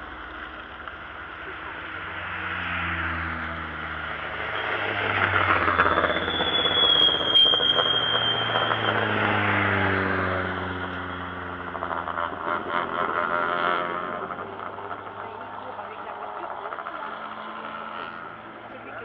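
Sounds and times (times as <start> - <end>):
high steady squeal: 0.0 - 19.0
racing car engines passing: 0.0 - 19.0.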